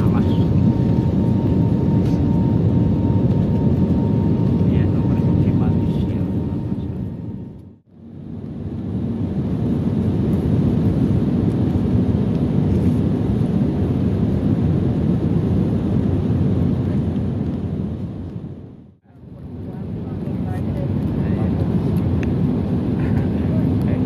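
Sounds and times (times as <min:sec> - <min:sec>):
airliner cabin engine roar: 0:00.0 - 0:24.0.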